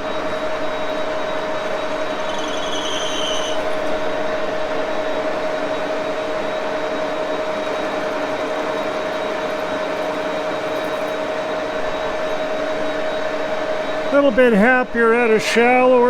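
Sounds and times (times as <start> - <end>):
high-pitched tool squeal: 0.0 - 14.6
metal lathe humming: 0.0 - 16.0.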